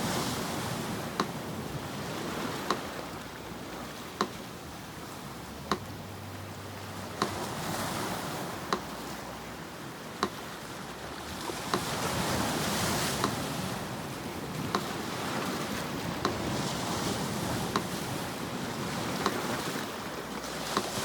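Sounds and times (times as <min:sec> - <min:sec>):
sea surf: 0:00.0 - 0:21.0
metronome ticking: 0:00.4 - 0:18.2, 0:19.0 - 0:21.0.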